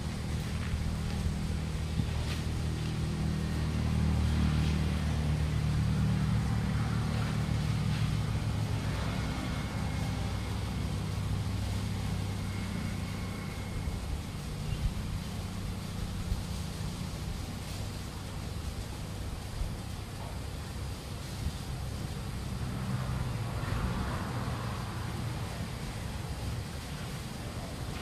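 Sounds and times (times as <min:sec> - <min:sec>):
low engine-like hum: 0:00.0 - 0:28.0.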